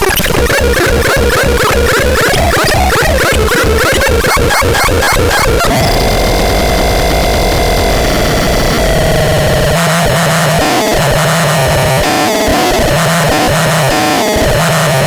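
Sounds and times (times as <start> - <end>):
harsh electronic noise: 0.0 - 15.0.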